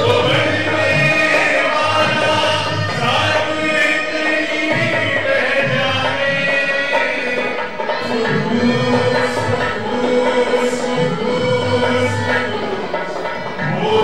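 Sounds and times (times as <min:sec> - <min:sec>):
man singing into a microphone: 0:00.0 - 0:13.0, 0:13.6 - 0:14.0
instrumental backing: 0:00.0 - 0:14.0
other voices singing: 0:00.0 - 0:14.0.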